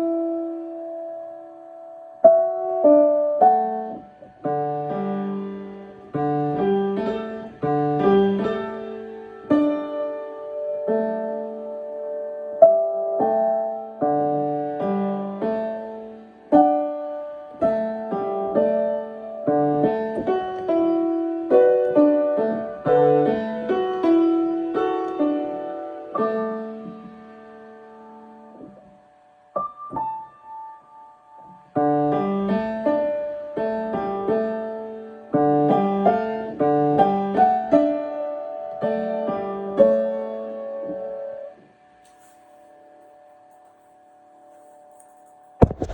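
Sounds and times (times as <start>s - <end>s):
solo piano playing: 0.0s - 28.8s, 29.5s - 41.6s.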